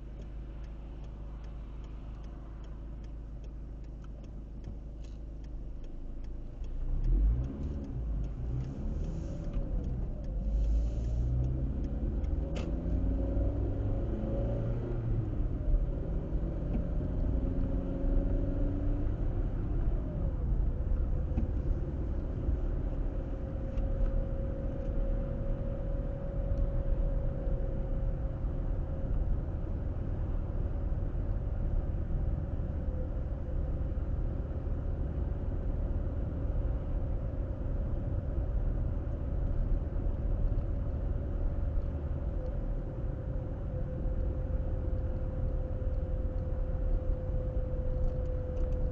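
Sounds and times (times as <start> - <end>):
car engine hum: 0.0 - 48.9
road and tyre rumble: 0.0 - 48.9.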